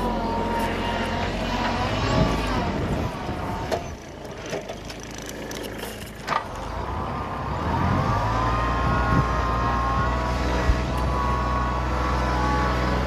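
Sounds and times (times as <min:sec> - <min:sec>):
tractor diesel engine: 0:00.0 - 0:13.0.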